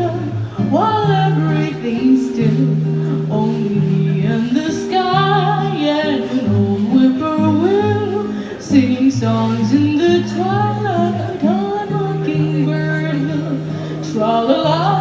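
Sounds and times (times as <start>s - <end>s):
person singing: 0.0s - 15.0s
plucked guitar: 0.0s - 15.0s
walking bass: 0.0s - 15.0s.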